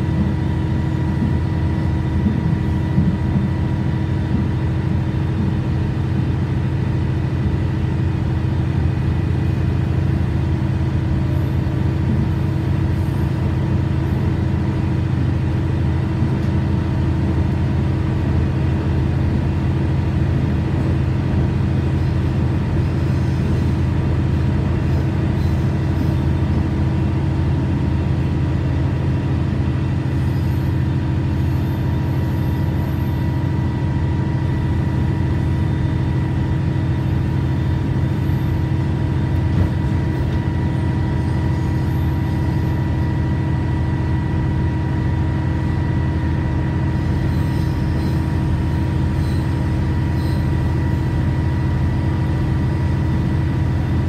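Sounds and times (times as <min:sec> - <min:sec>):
diesel railcar engine drone: 0:00.0 - 0:54.0.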